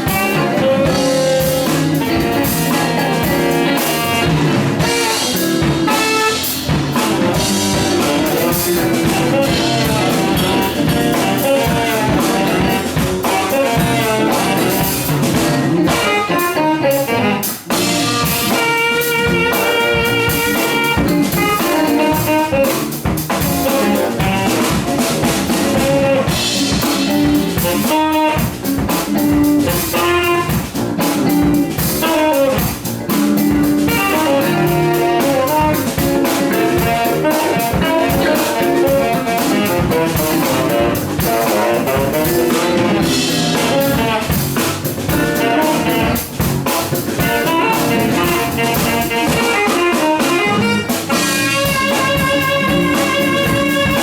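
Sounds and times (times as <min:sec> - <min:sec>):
drum kit beat: 0:00.0 - 0:54.0
electric guitar: 0:00.0 - 0:54.0
horn lines: 0:00.0 - 0:54.0
live funk-jazz band: 0:00.0 - 0:54.0.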